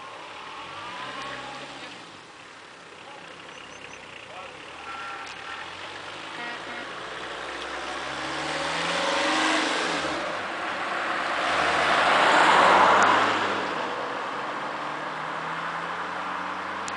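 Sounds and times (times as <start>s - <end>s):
van engine revving: 0.0s - 16.9s.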